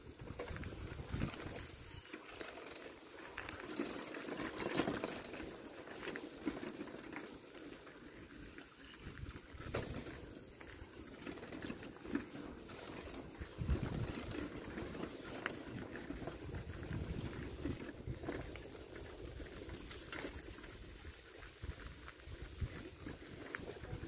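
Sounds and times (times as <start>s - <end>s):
footsteps on gravel: 0.2s - 24.0s.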